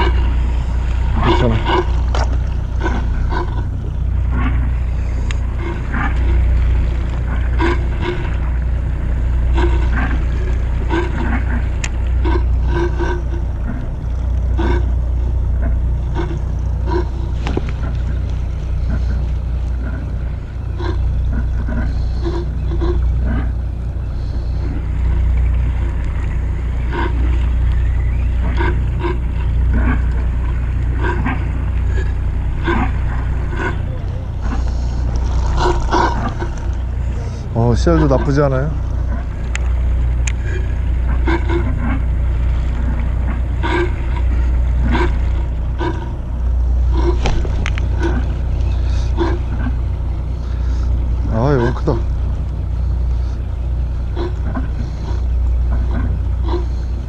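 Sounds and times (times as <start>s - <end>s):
boat engine rumble: 0.0s - 57.0s.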